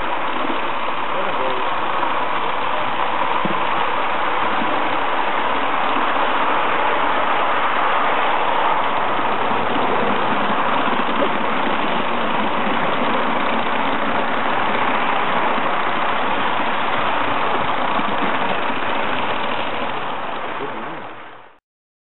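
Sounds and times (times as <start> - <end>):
model locomotive hissing: 0.0 - 21.5.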